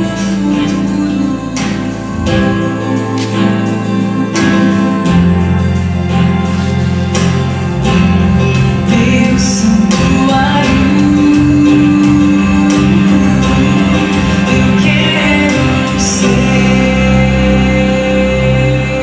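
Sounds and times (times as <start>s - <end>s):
sustained instrumental accompaniment: 0.0s - 19.0s.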